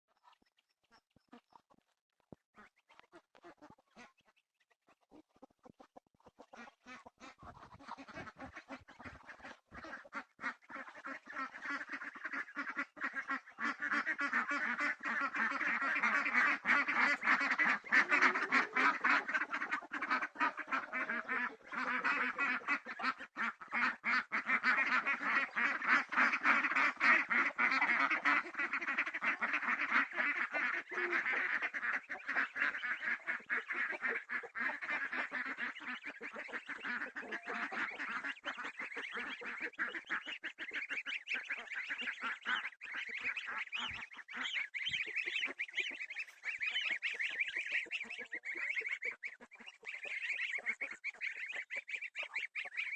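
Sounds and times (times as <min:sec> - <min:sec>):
geese and ducks honking and quacking: 0:00.1 - 0:52.9.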